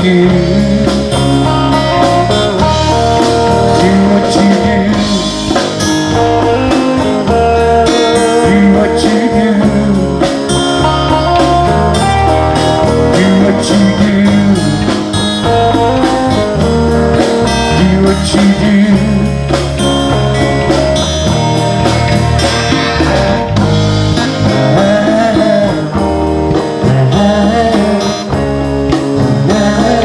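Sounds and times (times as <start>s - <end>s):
guitar-led blues-rock song: 0.0s - 30.0s.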